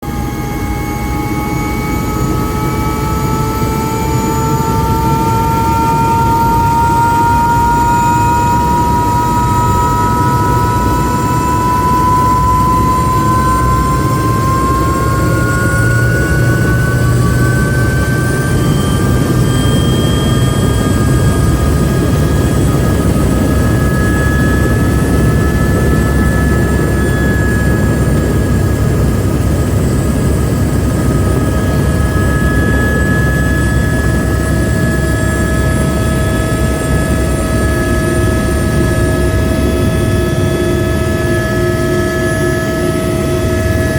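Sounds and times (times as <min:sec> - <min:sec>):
helicopter engine and rotors: 0:00.0 - 0:43.9
turbine whine: 0:00.0 - 0:43.9.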